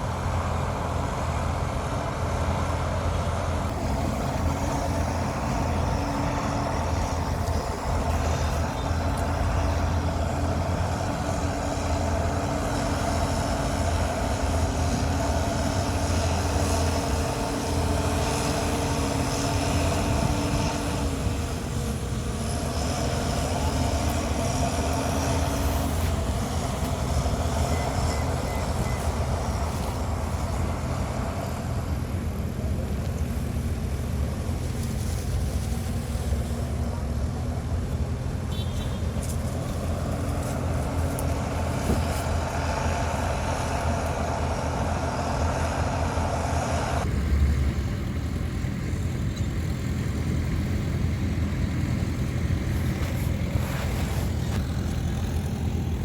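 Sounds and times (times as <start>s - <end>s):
heavy diesel machinery engines: 0.0s - 56.0s.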